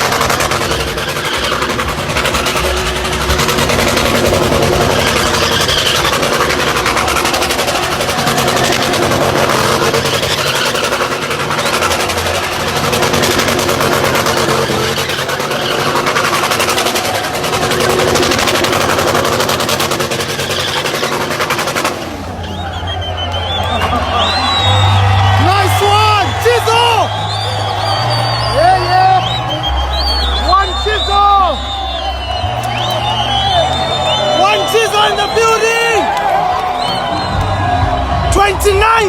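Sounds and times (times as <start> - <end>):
car engine running hard: 0.0 - 39.0
tyre and road noise: 0.0 - 39.0.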